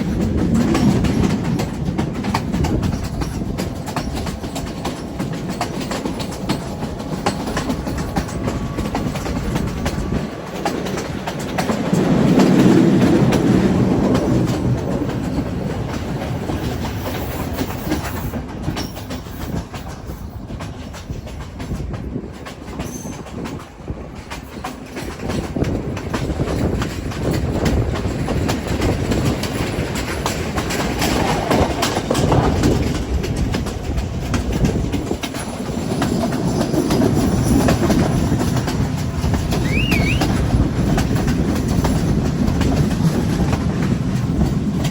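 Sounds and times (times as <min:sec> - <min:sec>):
train rumble: 0:00.0 - 0:44.9
train wheels clacking on rails: 0:00.0 - 0:44.9.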